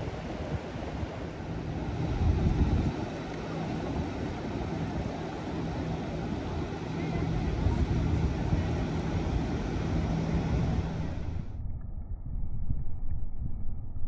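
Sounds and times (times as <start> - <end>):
small waves washing on shore: 0.0 - 11.5
faint low hum: 0.0 - 14.0
wind rumbling on microphone: 0.0 - 14.0.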